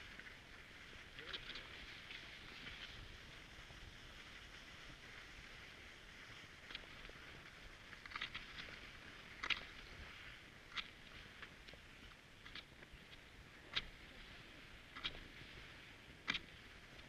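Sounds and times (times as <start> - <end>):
skis gliding over snow: 0.0 - 17.0.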